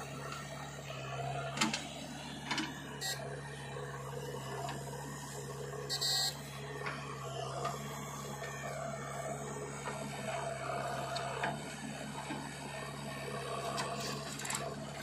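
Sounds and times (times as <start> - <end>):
diesel engines humming: 0.0 - 15.0.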